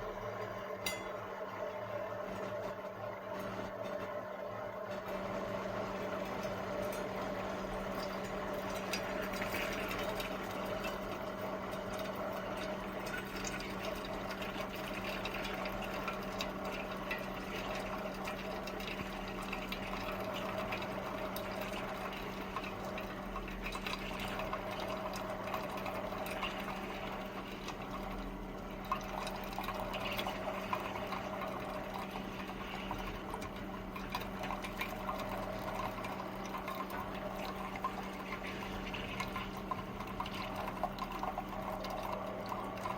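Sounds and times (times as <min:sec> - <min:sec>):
coffee maker hum: 0:00.0 - 0:42.9
water gurgling and trickling: 0:05.2 - 0:42.9.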